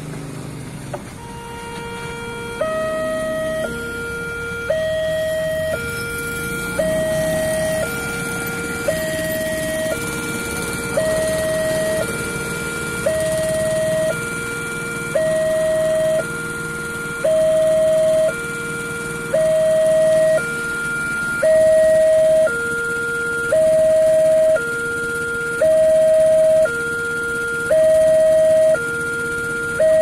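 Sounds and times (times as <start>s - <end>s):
level-crossing two-tone alarm: 1.2s - 30.0s.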